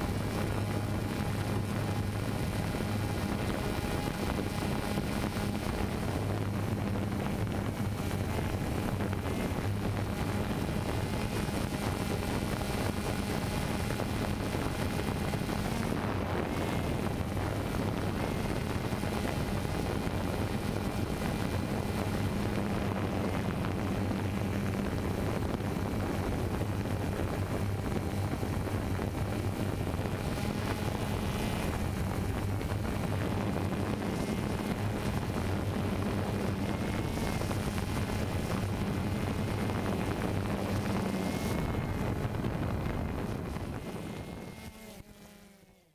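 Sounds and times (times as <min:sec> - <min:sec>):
drone propellers humming: 0:00.0 - 0:45.8.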